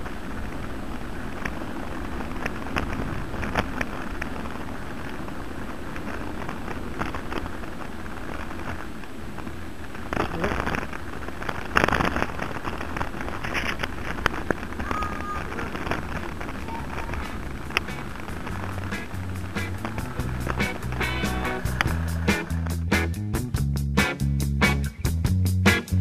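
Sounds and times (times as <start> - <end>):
bicycle tyres on pavement: 0.0 - 22.9
bicycle rattling over bumps: 0.0 - 23.6.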